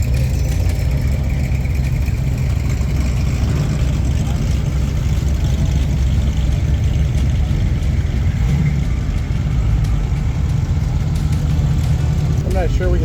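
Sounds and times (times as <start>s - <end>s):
car engine running low speed: 0.0s - 13.0s.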